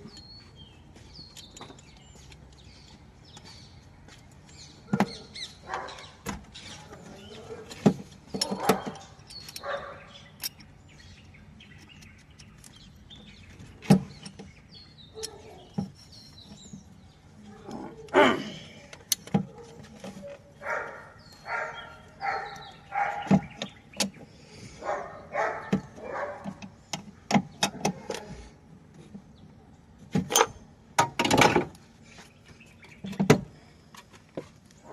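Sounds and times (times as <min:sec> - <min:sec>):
birds chirping: 0:00.0 - 0:31.0, 0:31.7 - 0:34.9.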